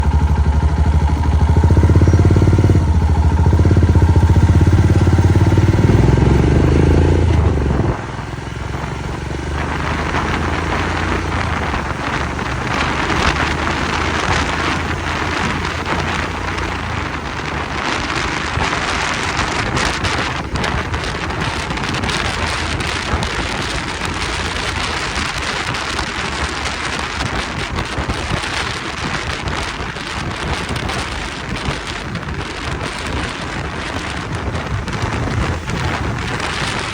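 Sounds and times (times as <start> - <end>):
motorcycle engine running: 0.0 - 36.9
wind and road noise hiss: 0.0 - 36.9.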